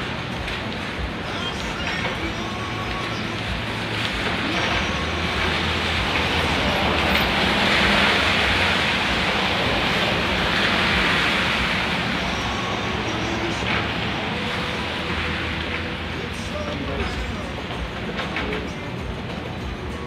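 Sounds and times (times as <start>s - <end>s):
low engine rumble: 0.0s - 20.0s
tyres hissing on wet road: 0.0s - 20.0s.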